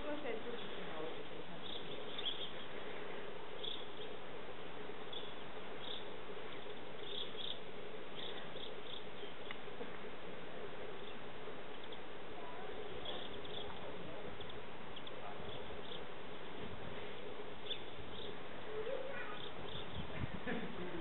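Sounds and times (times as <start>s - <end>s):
steady hum and hiss: 0.0s - 21.0s.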